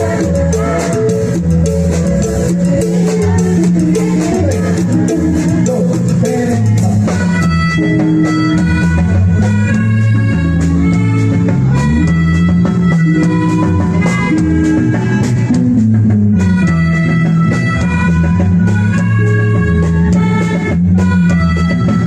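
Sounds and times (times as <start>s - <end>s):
instrumental band music: 0.0s - 22.0s.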